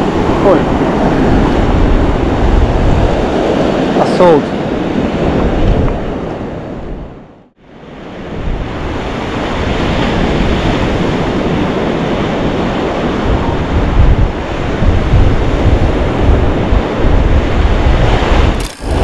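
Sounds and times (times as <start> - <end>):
wind buffeting microphone: 0.0 - 7.4, 8.2 - 19.0.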